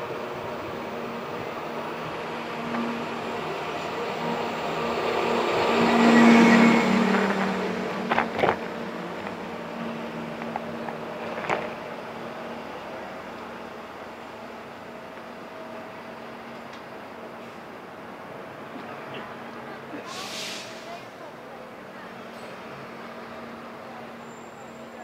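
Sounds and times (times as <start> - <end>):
street traffic: 0.0 - 25.0.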